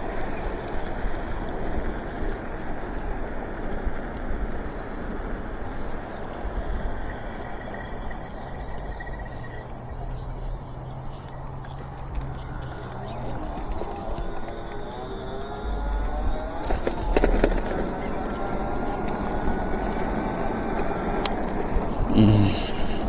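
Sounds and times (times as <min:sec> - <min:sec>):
low steady hum: 0:00.0 - 0:23.0
wind and road noise: 0:00.0 - 0:23.0.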